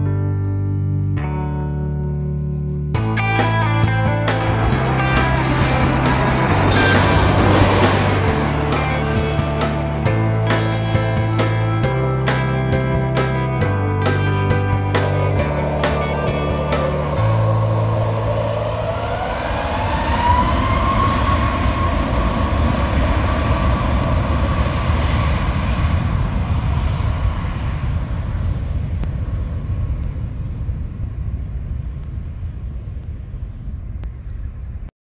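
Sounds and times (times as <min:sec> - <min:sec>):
jet engine rumble: 0:02.9 - 0:34.9
jet engines spooling up: 0:03.0 - 0:33.4.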